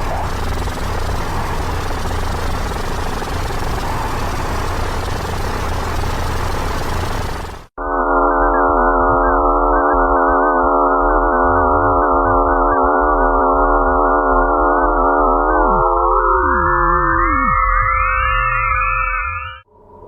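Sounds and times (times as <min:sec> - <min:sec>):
eerie electronic drone: 0:00.0 - 0:18.8.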